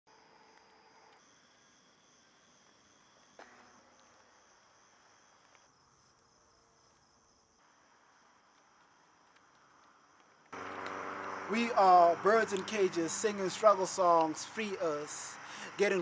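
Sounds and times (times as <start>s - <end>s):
crickets chirring: 0.1s - 16.0s.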